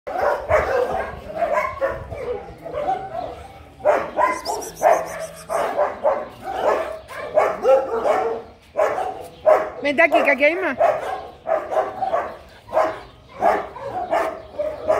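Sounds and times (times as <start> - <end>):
dog barking: 0.1 - 14.9.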